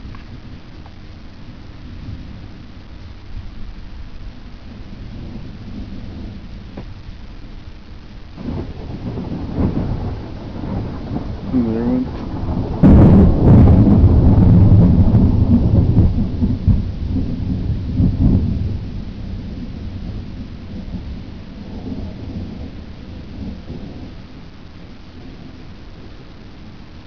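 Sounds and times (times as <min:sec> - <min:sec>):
steady rain: 0:00.0 - 0:27.0
thunder crack and rumble: 0:00.0 - 0:27.0.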